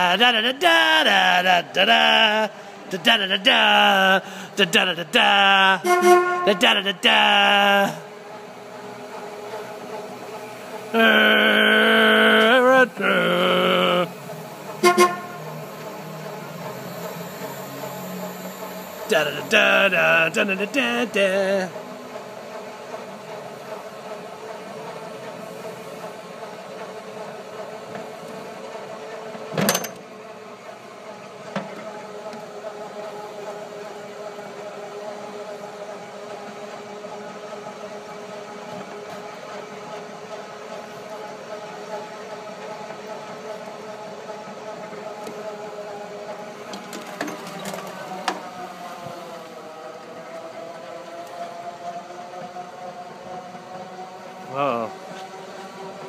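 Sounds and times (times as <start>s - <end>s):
electric cart motor whining: 0.0s - 56.0s.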